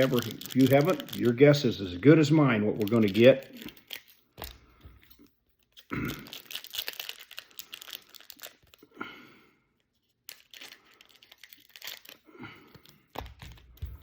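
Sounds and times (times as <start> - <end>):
card pack wrappers crinkling: 0.0 - 9.0, 10.1 - 14.0.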